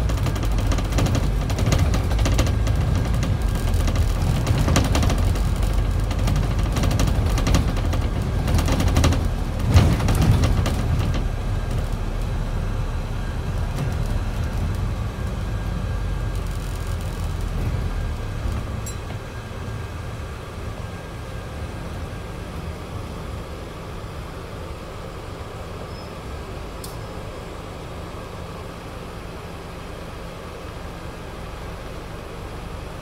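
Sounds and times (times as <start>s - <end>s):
bus diesel engine: 0.0s - 33.0s
rattles inside bus: 0.0s - 33.0s.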